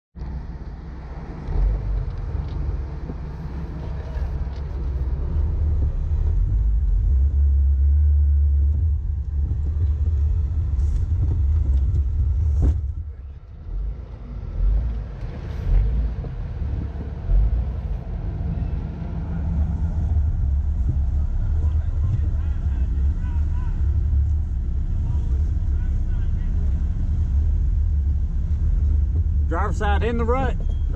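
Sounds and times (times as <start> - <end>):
vehicle engine rumbling: 0.2 - 30.9.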